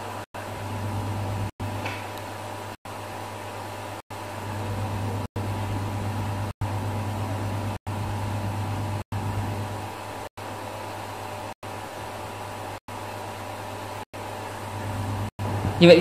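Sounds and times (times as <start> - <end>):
machine hum with hiss: 0.0 - 16.0.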